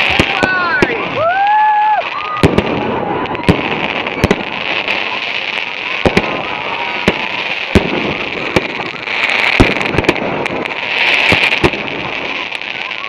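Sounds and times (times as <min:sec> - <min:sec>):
firework whistle: 0:00.0 - 0:13.0
fireworks bangs: 0:00.0 - 0:13.0.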